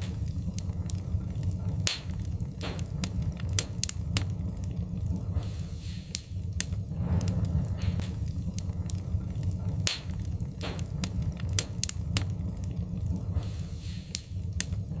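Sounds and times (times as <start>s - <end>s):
hissing: 0.0s - 15.0s
wood fire crackling: 0.0s - 15.0s.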